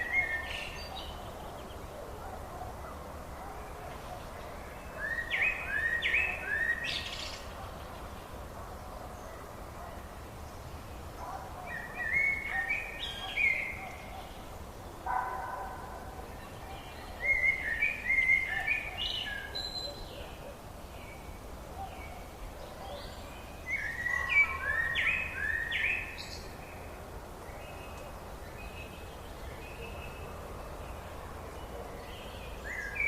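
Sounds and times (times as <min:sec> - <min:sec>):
steady background hiss: 0:00.0 - 0:33.0.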